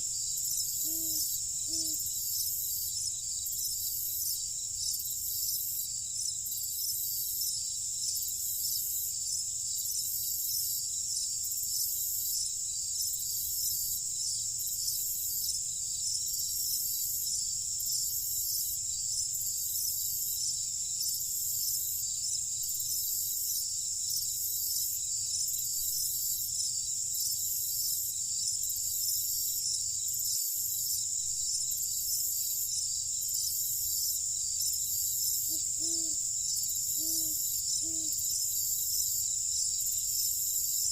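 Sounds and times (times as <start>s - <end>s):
pulsing high insect call: 0.0s - 10.8s, 16.2s - 40.9s
crickets trilling: 0.0s - 40.9s.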